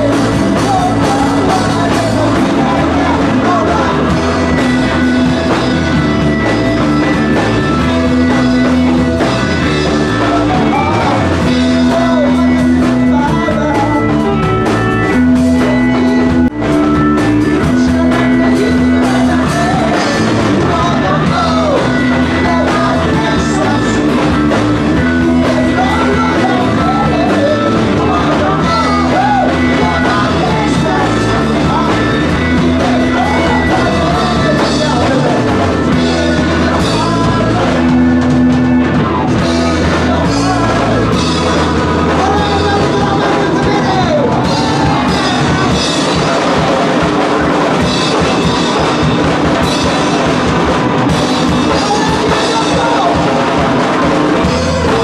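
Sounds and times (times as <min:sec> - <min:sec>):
live rock band playing: 0:00.0 - 0:55.0
man singing: 0:00.0 - 0:55.0.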